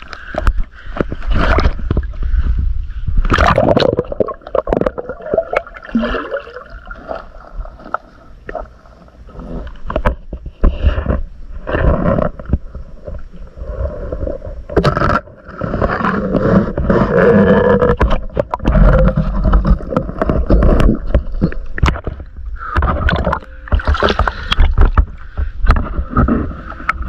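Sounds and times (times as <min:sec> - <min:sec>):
water sloshing and gurgling underwater: 0:00.0 - 0:27.0.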